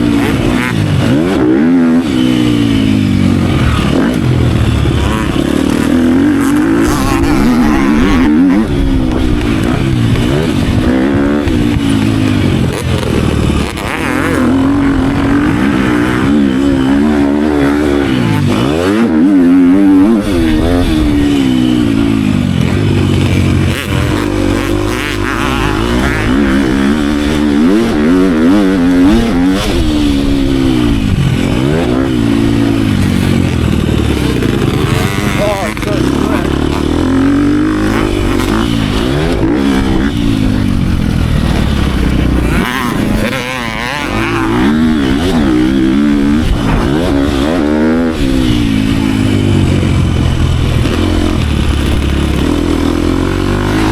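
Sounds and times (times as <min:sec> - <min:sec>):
dirt bike engine revving: 0:00.0 - 0:53.9
wind noise: 0:00.0 - 0:53.9.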